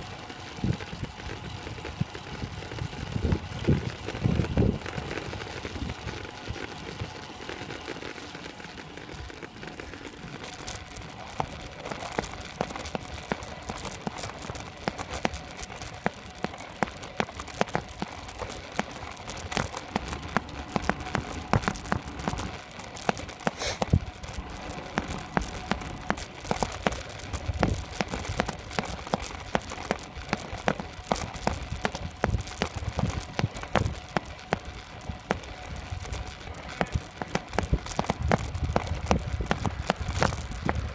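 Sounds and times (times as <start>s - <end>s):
bicycle clicks and rattles: 0.0s - 40.9s
tyre and road noise hiss: 0.0s - 40.9s.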